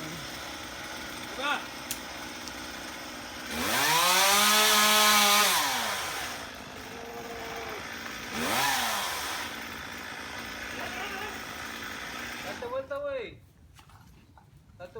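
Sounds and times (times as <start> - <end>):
chainsaw revving: 0.0 - 12.8.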